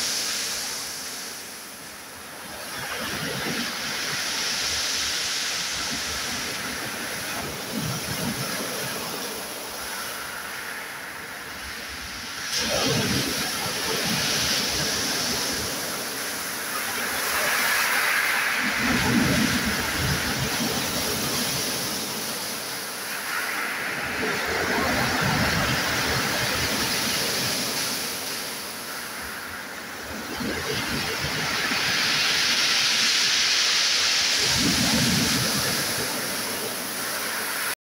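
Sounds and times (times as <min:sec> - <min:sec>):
waves washing back with a hiss: 0:00.0 - 0:37.8.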